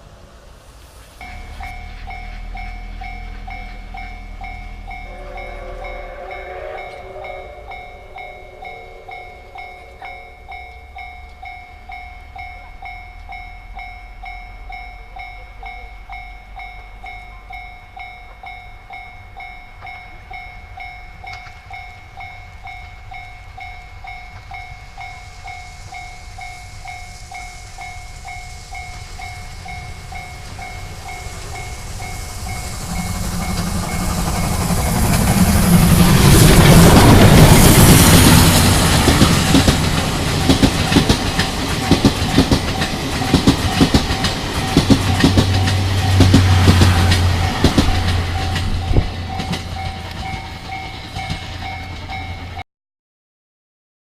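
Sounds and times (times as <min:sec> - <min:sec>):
train rumbling: 0:00.0 - 0:52.6
level-crossing alarm ringing: 0:01.2 - 0:52.6.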